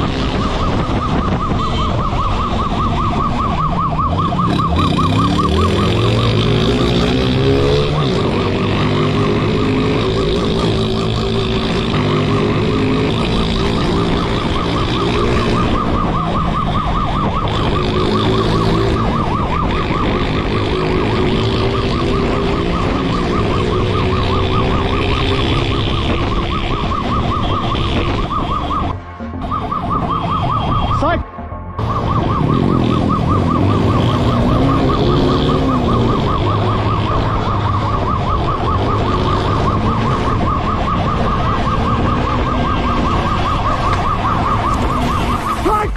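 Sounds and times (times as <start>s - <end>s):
police siren warbling: 0.0s - 45.9s
vehicle engine: 2.4s - 30.9s, 31.7s - 45.9s.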